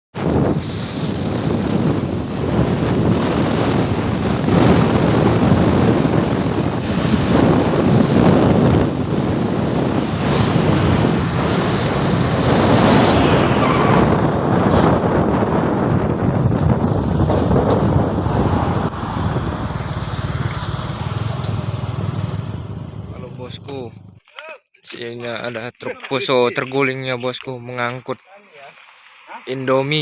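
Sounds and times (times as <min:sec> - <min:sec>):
wind buffeting microphone: 0:00.1 - 0:24.2.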